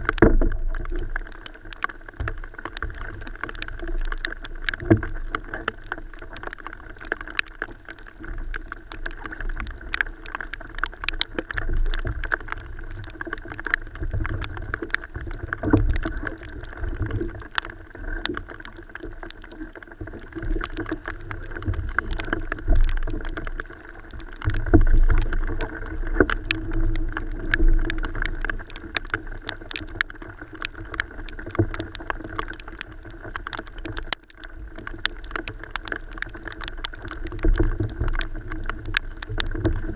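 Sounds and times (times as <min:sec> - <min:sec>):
ticks and knocks from gear: 0:00.0 - 0:39.9.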